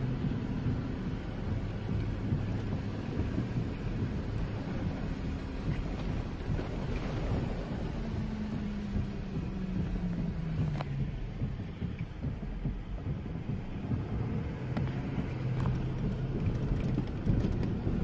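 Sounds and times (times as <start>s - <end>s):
car rumble: 0.0s - 18.0s
gusty storm wind: 0.0s - 18.0s.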